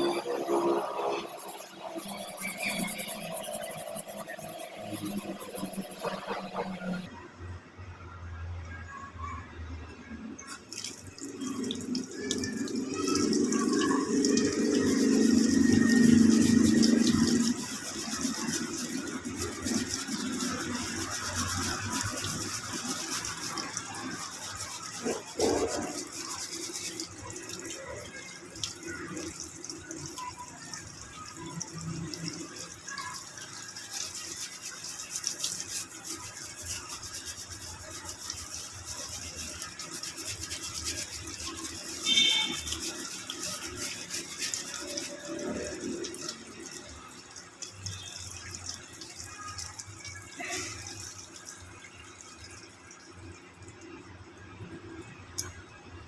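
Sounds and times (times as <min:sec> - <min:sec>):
scrubbing and handling noises: 0:00.0 - 0:07.1, 0:10.5 - 0:52.5
water running from a tap: 0:00.0 - 0:07.2, 0:08.8 - 0:56.0.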